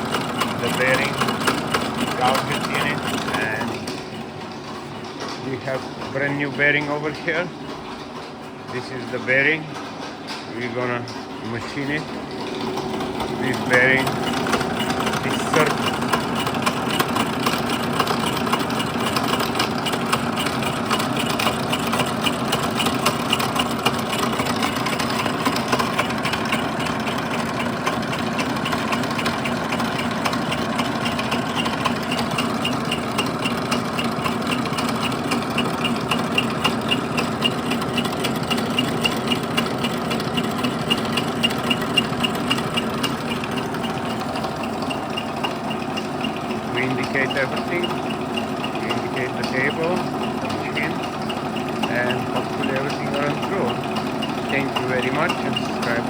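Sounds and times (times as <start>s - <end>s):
milling machine running: 0.0s - 56.0s
regular ticking from cutting: 0.0s - 56.0s.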